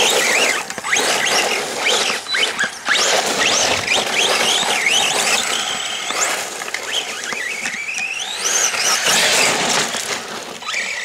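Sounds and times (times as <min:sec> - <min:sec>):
toy truck electric motor whining: 0:00.0 - 0:11.0.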